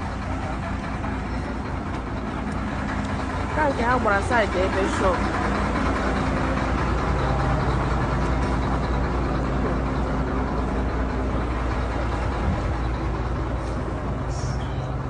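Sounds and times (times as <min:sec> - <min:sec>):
constant rushing noise: 0:00.0 - 0:15.0
vehicle engine humming: 0:00.0 - 0:15.0.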